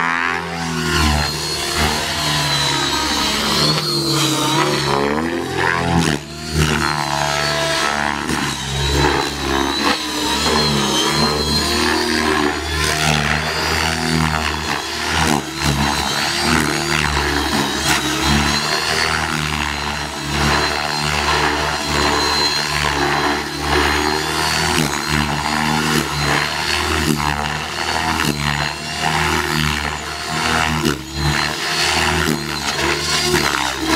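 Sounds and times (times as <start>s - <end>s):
helicopter motor whine: 0.0s - 33.9s
helicopter rotor beat: 0.0s - 33.9s.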